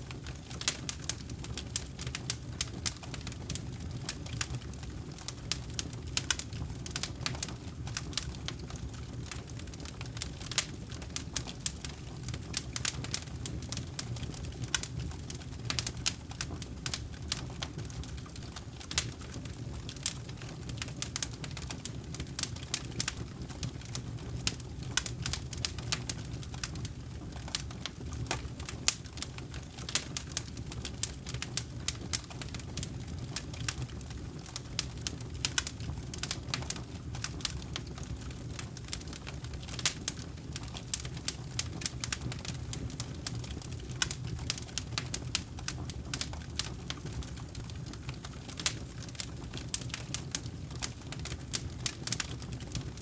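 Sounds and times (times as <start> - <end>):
low rumble of flames: 0.0 - 53.0
campfire crackling and popping: 0.1 - 53.0.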